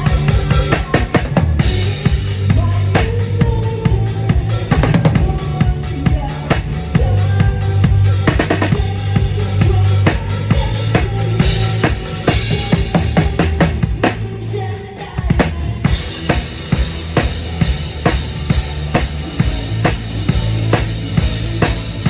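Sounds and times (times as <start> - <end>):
bass notes: 0.0 - 14.6, 15.4 - 22.0
live band playing: 0.0 - 14.6, 15.2 - 22.0
drum kit groove: 0.0 - 22.0.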